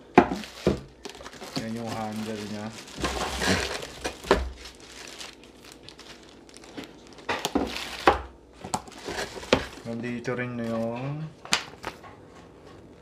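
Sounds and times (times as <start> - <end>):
packaging rustling and crinkling: 0.3 - 12.1.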